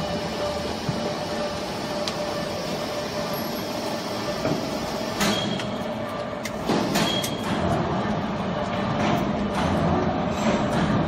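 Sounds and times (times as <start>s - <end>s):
baler mechanical hum: 0.0s - 11.0s.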